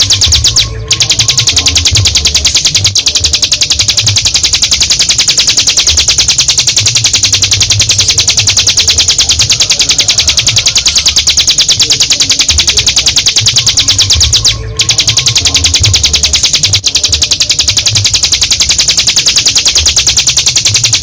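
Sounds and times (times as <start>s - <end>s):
bird singing a fast high trill: 0.0s - 21.0s.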